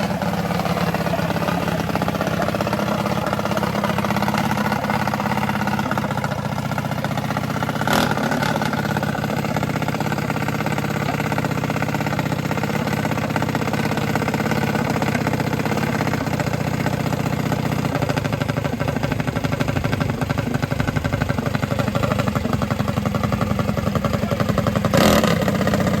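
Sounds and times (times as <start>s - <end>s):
minibike engine running: 0.0s - 26.0s.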